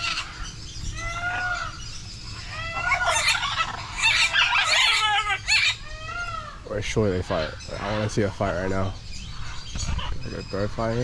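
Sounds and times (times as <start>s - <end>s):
birds calling and squawking: 0.0s - 11.0s.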